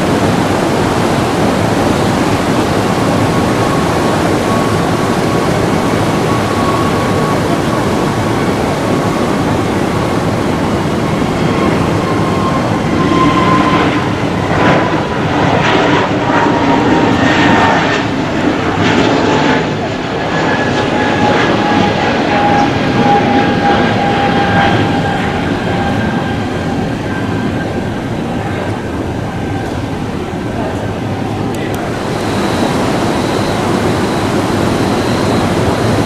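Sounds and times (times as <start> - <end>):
jet airliner passing: 0.0 - 36.0.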